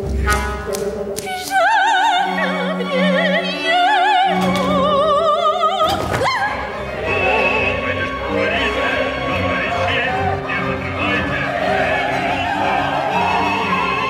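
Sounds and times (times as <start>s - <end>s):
operatic soprano singing: 1.2s - 14.0s.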